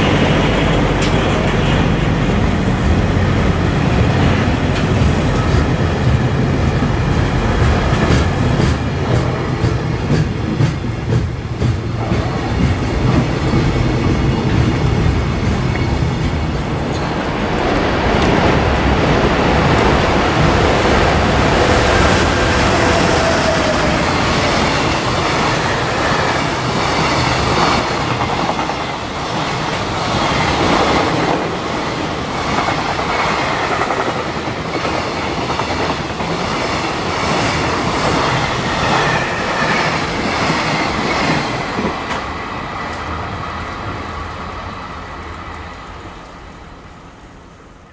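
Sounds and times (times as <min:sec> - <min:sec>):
freight train passing: 0:00.0 - 0:47.9.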